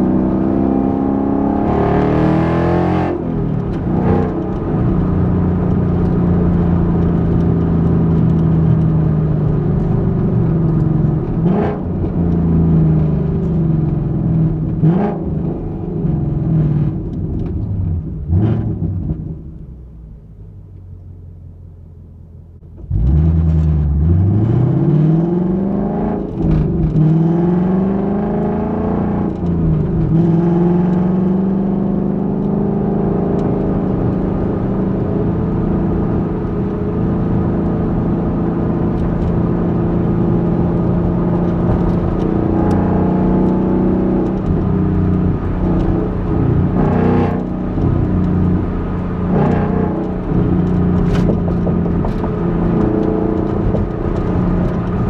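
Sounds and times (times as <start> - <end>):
car exhaust accelerating: 0.0 - 55.0
car exhaust cruising: 0.0 - 55.0.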